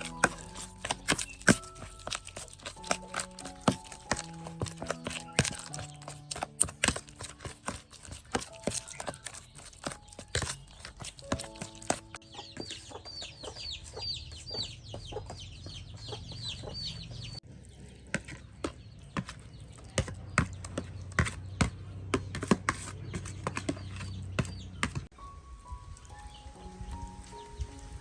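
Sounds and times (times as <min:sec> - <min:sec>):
bird chirping: 0:00.0 - 0:21.6, 0:25.7 - 0:28.0.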